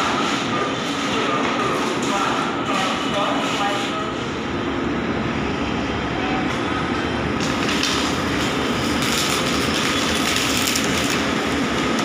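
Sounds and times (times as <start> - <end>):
electric train equipment hum: 0.0 - 12.0.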